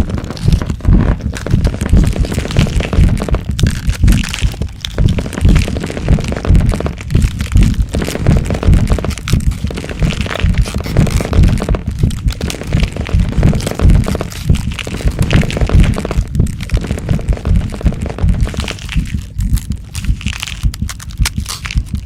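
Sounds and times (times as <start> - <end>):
cracking and crunching: 0.0 - 22.0
deep booming thuds: 0.0 - 22.0.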